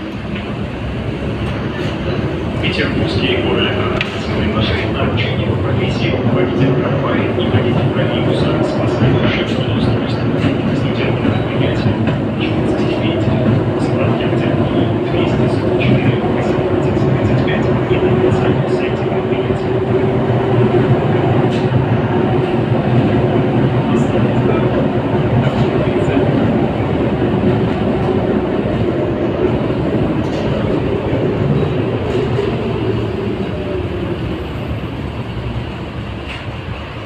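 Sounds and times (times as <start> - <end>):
tram wheels rumbling on rail: 0.0 - 37.0.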